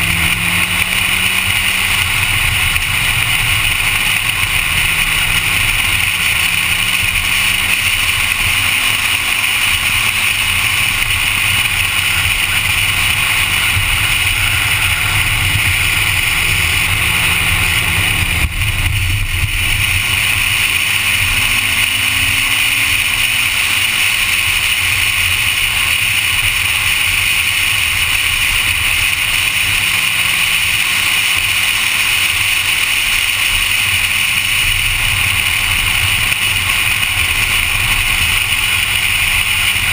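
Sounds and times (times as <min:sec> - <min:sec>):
car engine running hard: 0:00.0 - 0:39.9
loud rushing noise: 0:00.0 - 0:39.9.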